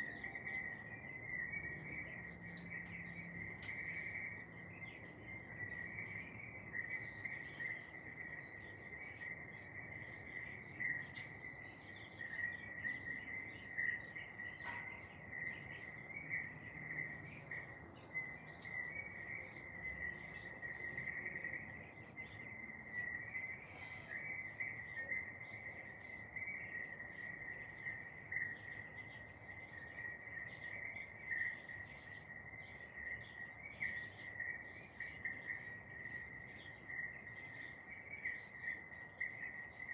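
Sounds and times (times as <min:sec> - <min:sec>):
birds chirping: 0:00.0 - 0:39.9
insect trill: 0:00.0 - 0:39.9.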